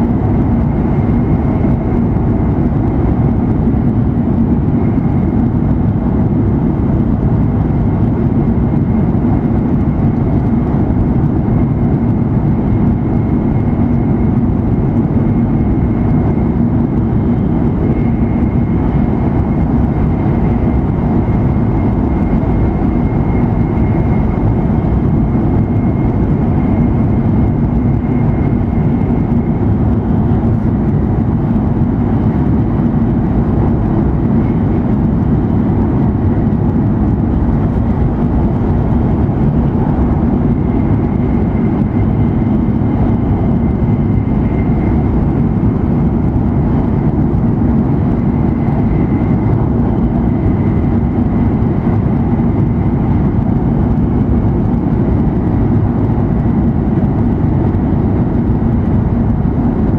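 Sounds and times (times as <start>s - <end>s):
train cabin rumble and rush: 0.0s - 59.9s.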